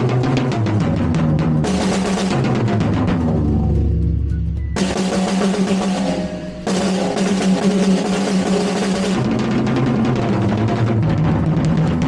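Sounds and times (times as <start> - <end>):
drum kit playing fast: 0.0 - 12.0.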